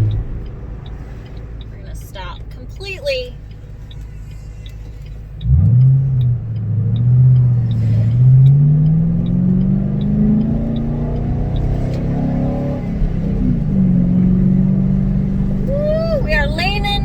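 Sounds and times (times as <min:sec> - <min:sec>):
car engine revving and accelerating: 0:00.0 - 0:02.3, 0:03.8 - 0:17.0.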